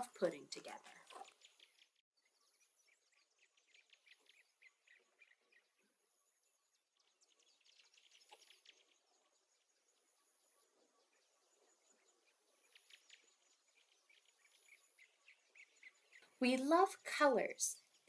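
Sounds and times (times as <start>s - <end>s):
faint high bird chirps: 0.0s - 18.0s.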